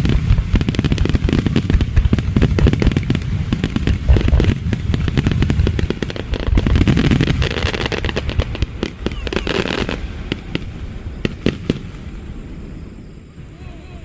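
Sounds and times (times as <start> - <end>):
deep fireworks booms: 0.0 - 14.0
fireworks bangs and crackles: 0.0 - 14.0.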